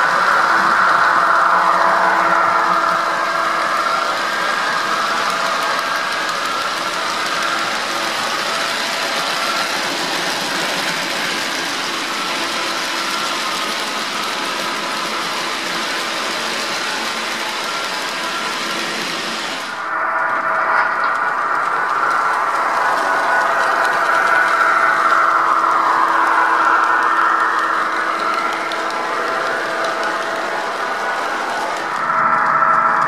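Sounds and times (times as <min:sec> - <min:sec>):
metal wheels rattling on rail: 0:00.0 - 0:33.0.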